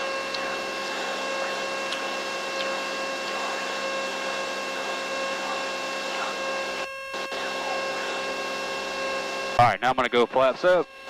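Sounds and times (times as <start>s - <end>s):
aircraft engine and propeller droning: 0.0s - 11.0s.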